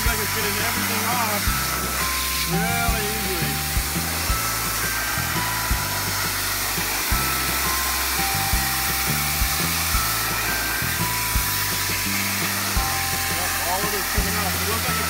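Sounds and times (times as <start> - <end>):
background music with beat: 0.0 - 15.0
pressure washer spraying: 0.0 - 15.0.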